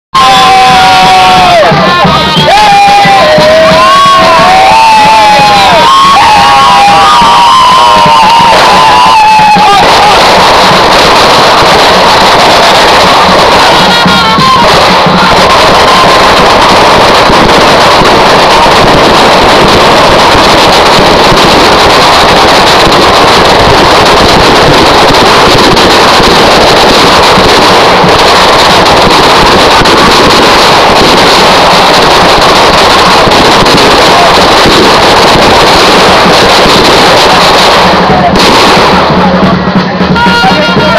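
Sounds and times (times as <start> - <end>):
fireworks crackling: 0.1 - 40.9.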